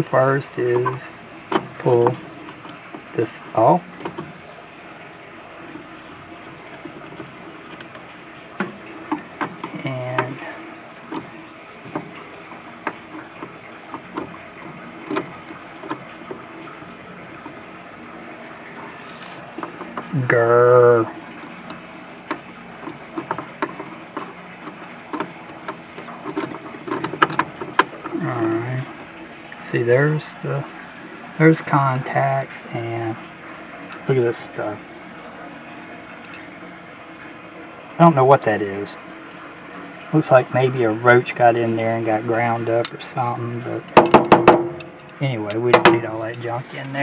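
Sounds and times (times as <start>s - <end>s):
steady background noise: 0.0s - 47.0s.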